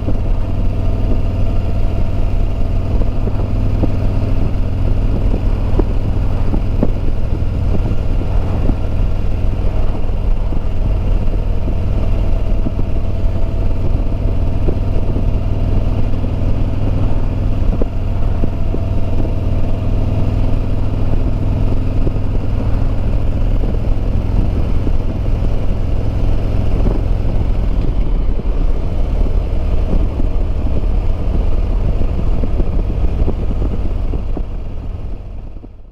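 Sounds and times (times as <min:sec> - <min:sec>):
motorcycle engine running: 0:00.0 - 0:35.9
wind noise on microphone: 0:00.0 - 0:35.9.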